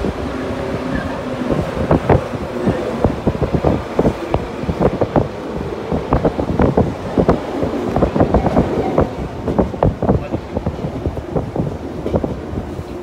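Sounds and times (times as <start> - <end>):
train running noise: 0.0 - 13.0
wind buffeting microphone: 0.0 - 13.0.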